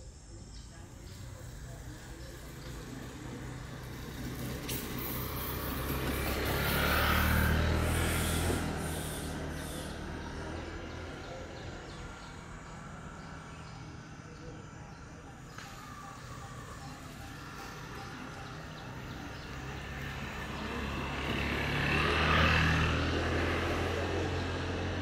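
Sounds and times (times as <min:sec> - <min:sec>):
vehicle engine passing by: 0:01.4 - 0:25.0.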